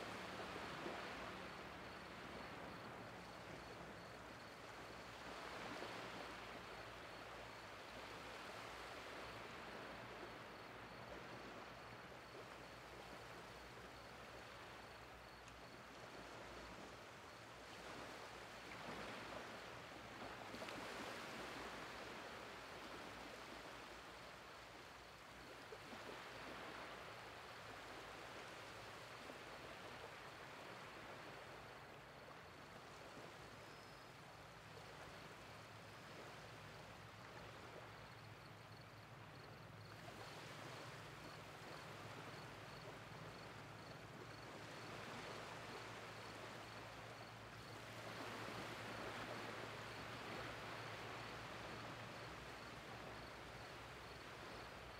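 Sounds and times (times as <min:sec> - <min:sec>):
small waves lapping on sand: 0:00.0 - 0:54.9.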